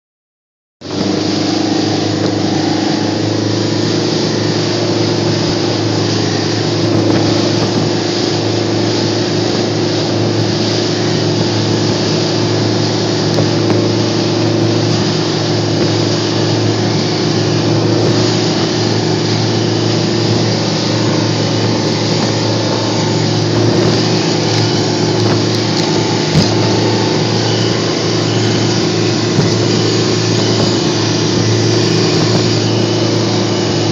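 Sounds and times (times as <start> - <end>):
boat engine droning: 0.8 - 33.9
rushing water: 0.8 - 33.9
wind: 0.8 - 33.9.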